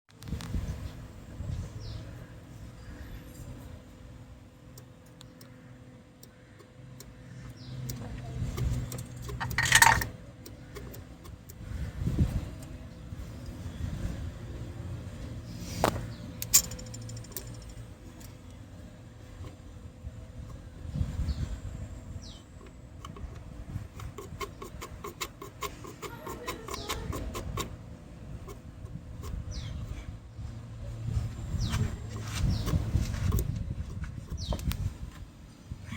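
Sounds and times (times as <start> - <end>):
engine running with metallic ticking: 6.2 - 35.4.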